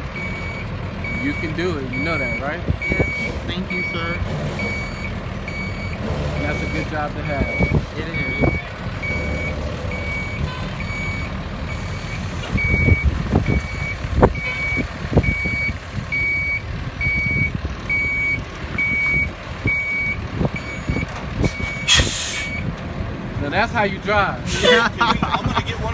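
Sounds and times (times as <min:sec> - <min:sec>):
truck engine rumble: 0:00.0 - 0:25.9
reversing alarm beeps: 0:00.1 - 0:22.7.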